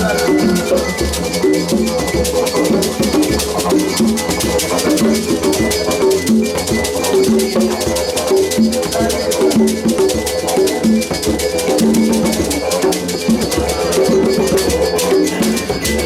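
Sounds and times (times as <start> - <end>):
conga strokes: 0.0 - 16.0
didgeridoo drone: 0.0 - 16.0
plucked kora notes: 0.0 - 16.0
shekere rattling: 0.0 - 16.0.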